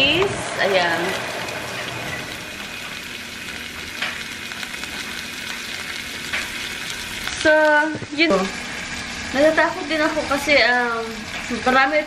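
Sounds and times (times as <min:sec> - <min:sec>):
vegetables sizzling in pot: 0:00.0 - 0:12.0.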